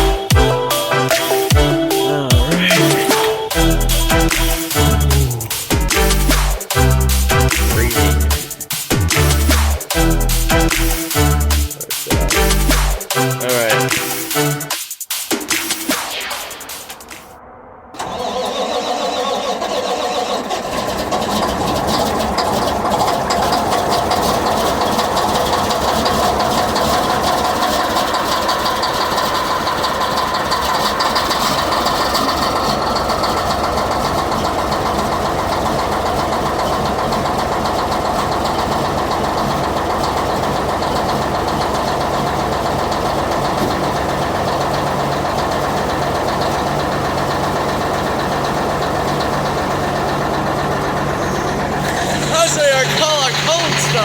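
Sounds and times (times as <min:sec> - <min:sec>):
diesel engine starting and idling: 0:00.0 - 0:14.8, 0:18.0 - 0:54.0.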